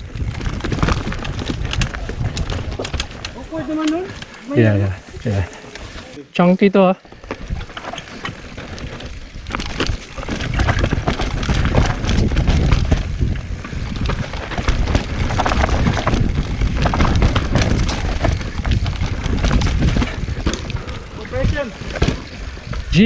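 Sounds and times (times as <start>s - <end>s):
wind rumble on microphone: 0.0s - 4.1s, 7.4s - 23.0s
bike rattling: 0.0s - 6.2s, 7.0s - 23.0s.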